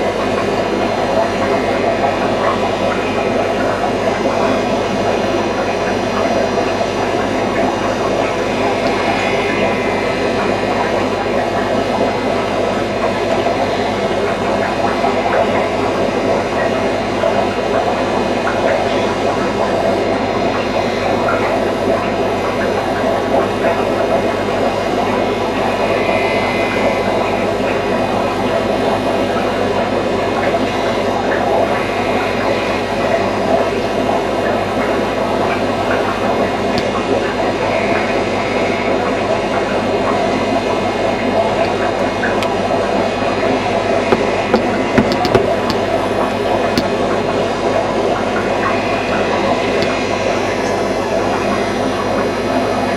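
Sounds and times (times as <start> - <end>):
machine hum with rushing noise: 0.0 - 52.9.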